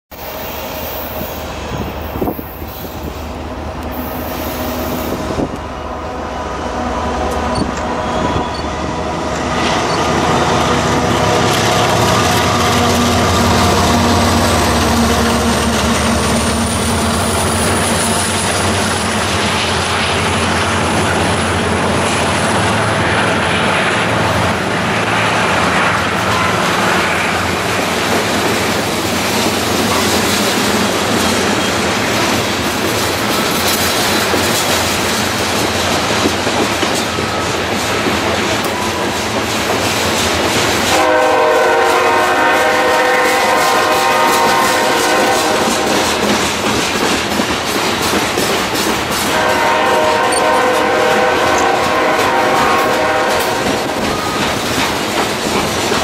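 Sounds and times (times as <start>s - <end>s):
diesel locomotives running: 0.1s - 56.0s.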